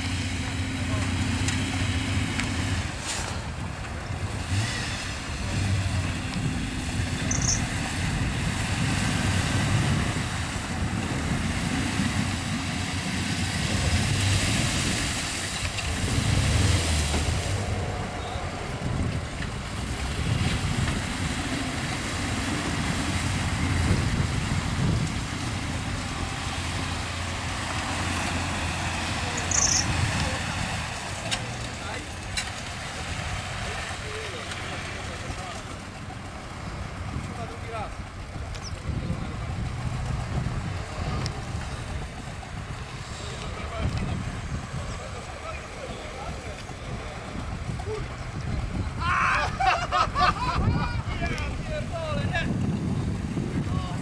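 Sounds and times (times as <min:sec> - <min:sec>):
off-road engines revving: 0:00.0 - 0:54.0.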